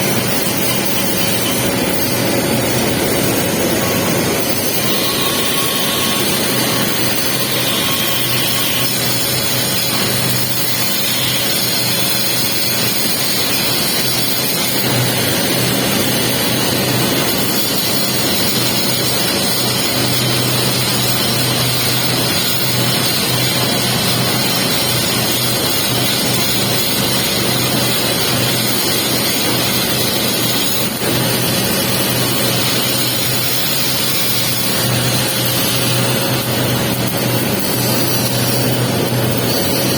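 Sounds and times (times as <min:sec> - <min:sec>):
welding arc crackling hiss: 0:00.2 - 0:39.9.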